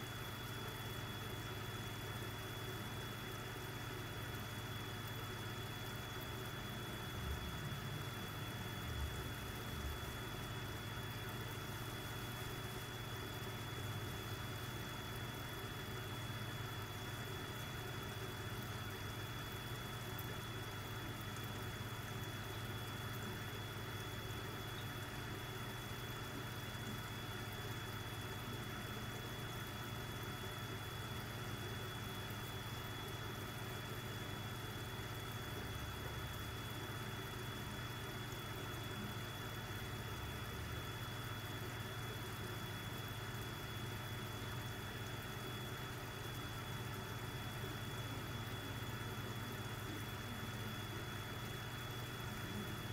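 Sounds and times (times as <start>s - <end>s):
aquarium equipment humming: 0.0s - 52.9s.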